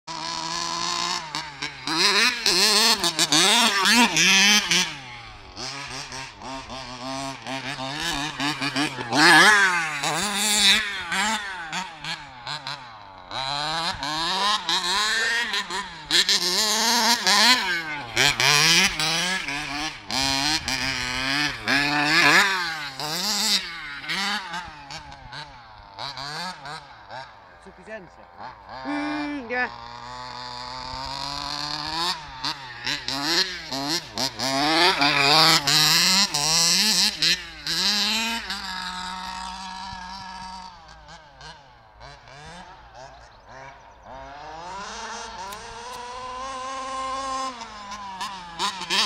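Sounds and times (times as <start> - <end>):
model buggy engine revving: 0.0 - 49.0.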